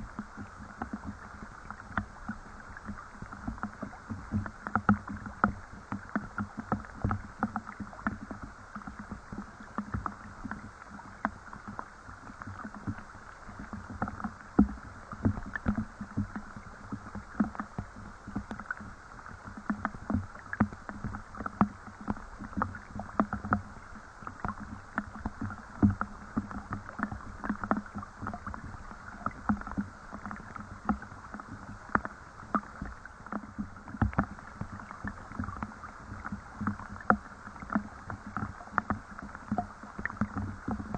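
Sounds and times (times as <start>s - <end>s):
soft rain patter: 0.0s - 40.9s.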